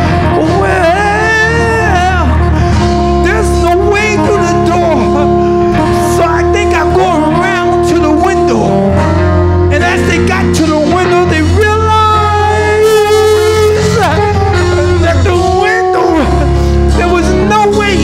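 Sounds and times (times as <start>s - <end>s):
man singing: 0.0s - 9.0s, 9.7s - 18.0s
church band music: 0.0s - 18.0s.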